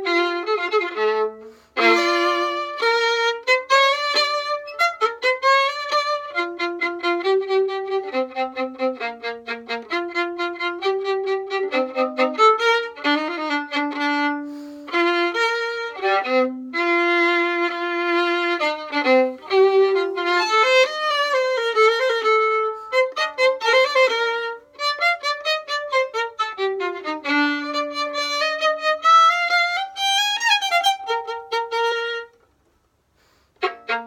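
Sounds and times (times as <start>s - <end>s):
solo violin melody: 0.0s - 32.4s, 33.5s - 34.0s.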